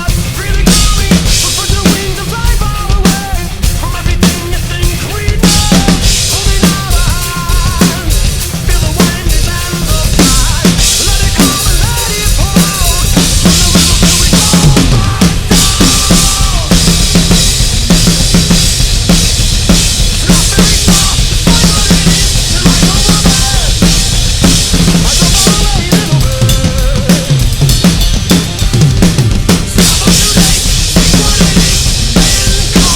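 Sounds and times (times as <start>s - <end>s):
rock song with guitars and singing: 0.0s - 32.9s.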